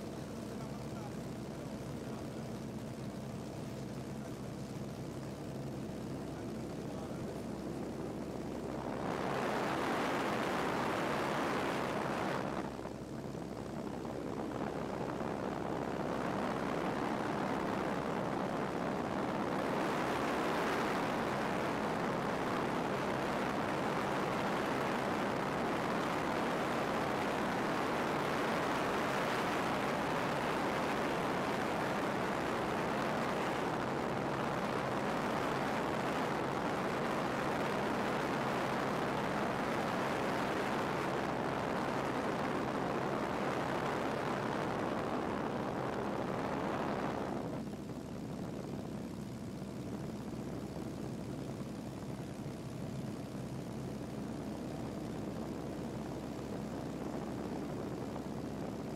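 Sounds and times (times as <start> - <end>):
light aircraft engine drone in cabin: 0.0 - 58.9.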